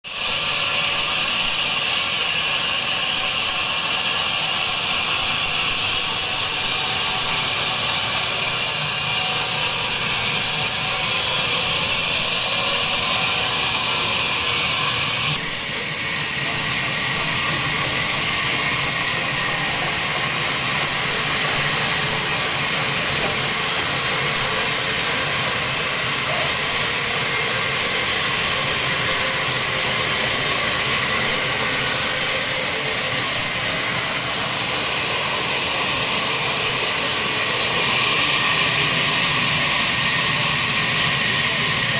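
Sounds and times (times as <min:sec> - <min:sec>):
sawmill saw cutting timber: 0:00.1 - 0:41.9.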